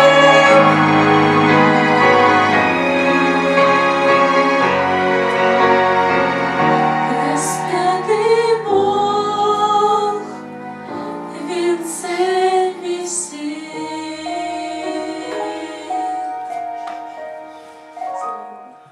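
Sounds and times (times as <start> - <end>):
women singing: 0.0 - 16.8
instrumental accompaniment: 0.0 - 18.9.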